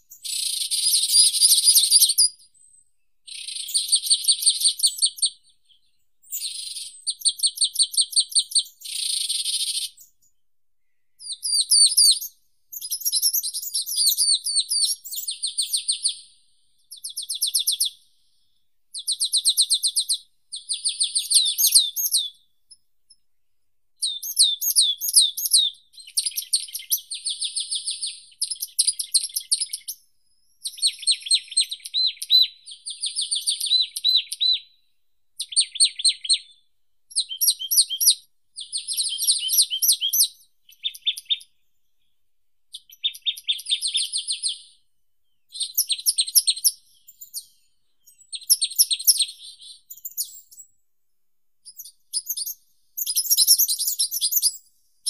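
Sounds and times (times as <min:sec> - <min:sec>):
songbirds singing: 0:00.0 - 0:23.4, 0:24.0 - 0:50.8, 0:51.6 - 0:55.0.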